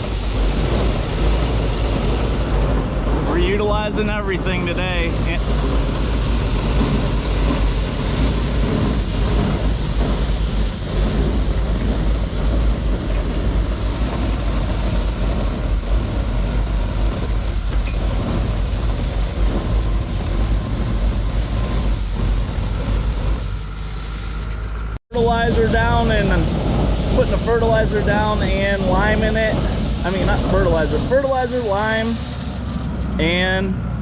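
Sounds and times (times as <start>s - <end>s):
constant high hiss: 0.0s - 33.8s
heavy farm machinery rumbling: 0.0s - 34.0s.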